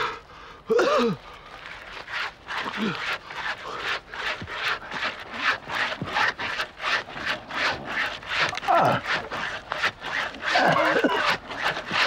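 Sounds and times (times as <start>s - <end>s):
hand saw rasping through wood: 1.6s - 12.0s.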